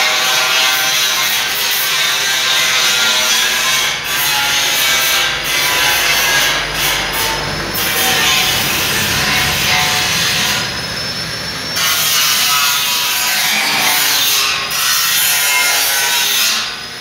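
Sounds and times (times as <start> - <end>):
power tool rasping: 0.0 - 16.9.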